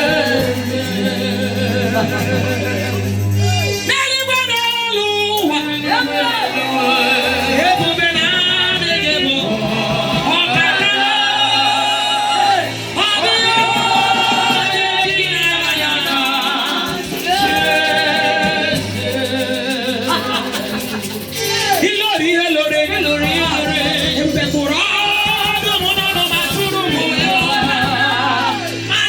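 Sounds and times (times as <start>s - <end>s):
keyboard and bass accompaniment: 0.0s - 29.0s
person singing gospel: 0.0s - 29.0s.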